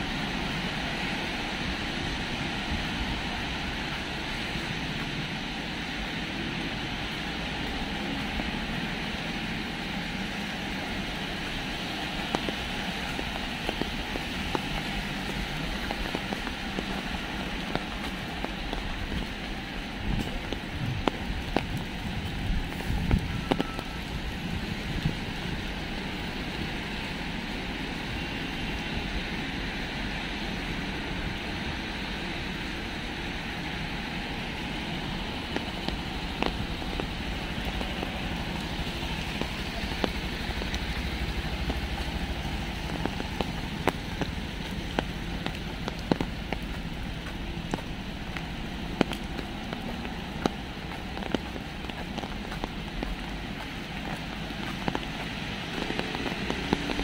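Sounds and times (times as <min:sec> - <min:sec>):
steady rain on street: 0:00.0 - 0:57.0
traffic on wet road: 0:00.0 - 0:57.0.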